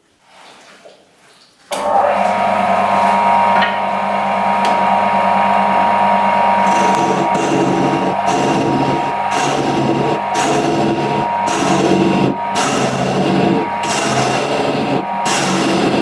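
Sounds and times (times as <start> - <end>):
wood lathe spinning: 1.8 - 16.0.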